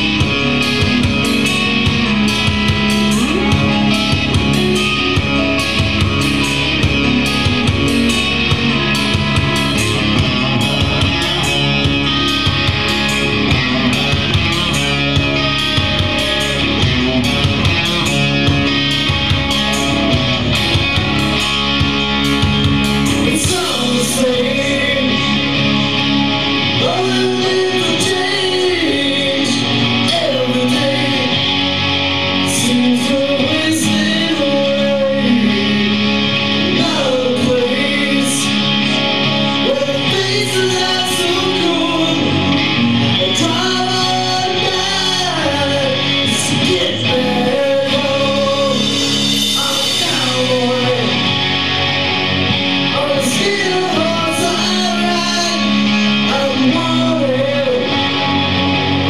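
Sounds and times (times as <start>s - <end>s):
live rock band playing: 0.0s - 59.0s
person singing: 0.0s - 59.0s.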